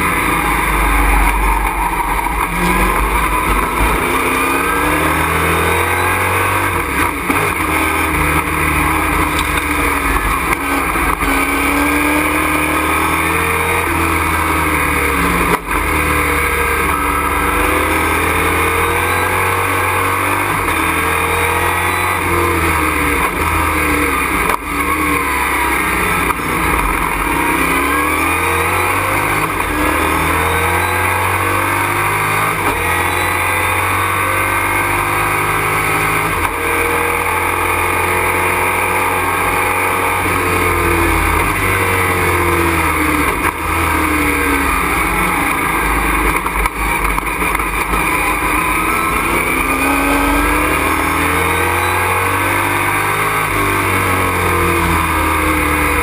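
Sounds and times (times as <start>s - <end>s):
race truck engine revving: 0.0s - 56.0s.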